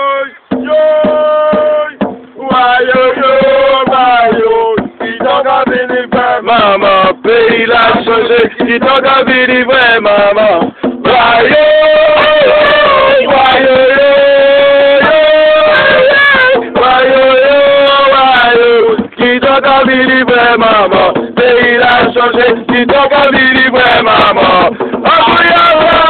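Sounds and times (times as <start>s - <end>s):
voices singing a chant: 0.0s - 26.0s
hand drums: 0.4s - 26.0s.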